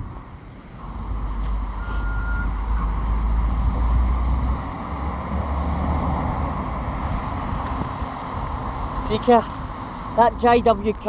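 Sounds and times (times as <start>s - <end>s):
lorry engine rumble: 0.0s - 11.0s
steady traffic: 0.0s - 11.0s
tyre and road noise: 0.0s - 11.0s.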